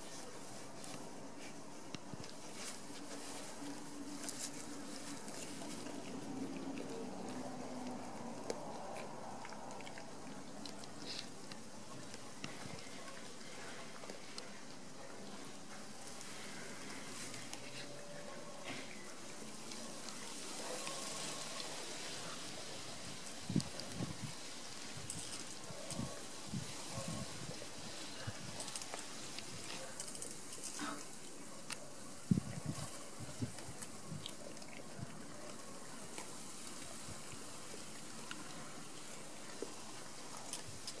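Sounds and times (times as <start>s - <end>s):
puppy chewing grass: 0.0s - 41.0s.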